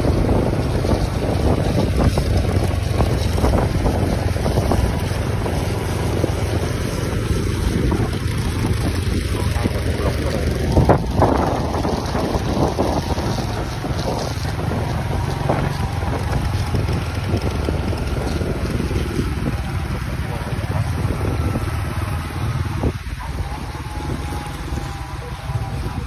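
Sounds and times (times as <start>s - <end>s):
road and engine rumble: 0.0s - 26.0s
wind buffeting microphone: 0.0s - 26.0s.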